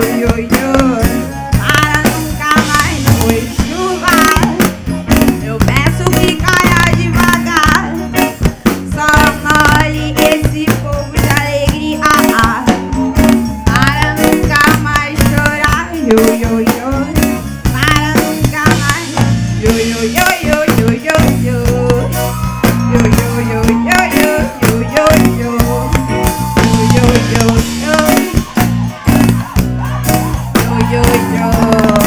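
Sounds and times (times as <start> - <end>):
woman singing into a microphone: 0.0 - 28.6, 30.5 - 32.0
drum kit beat: 0.0 - 32.0
guitar: 0.0 - 32.0
live band playing: 0.0 - 32.0.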